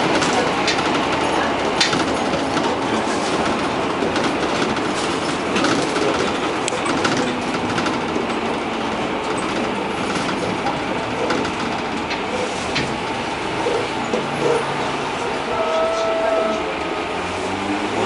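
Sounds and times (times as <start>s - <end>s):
bus body rattling: 0.0s - 15.8s
bus engine and road noise: 0.0s - 18.0s.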